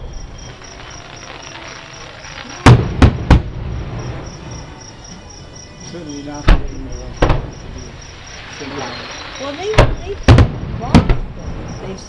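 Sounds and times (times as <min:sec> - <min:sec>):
distant fireworks bangs: 0:00.0 - 0:05.1, 0:06.4 - 0:12.0
faint steady background noise: 0:00.0 - 0:12.0.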